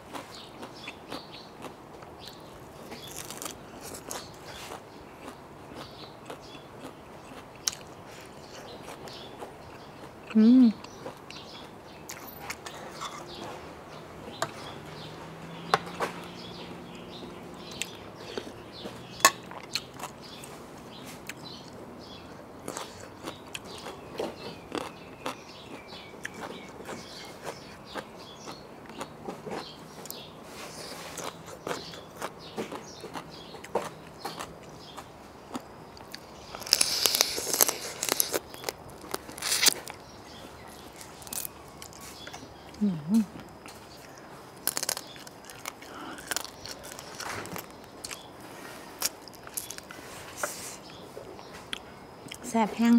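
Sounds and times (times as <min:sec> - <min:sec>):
person chewing and crunching: 0:00.0 - 0:13.4, 0:14.2 - 0:52.4.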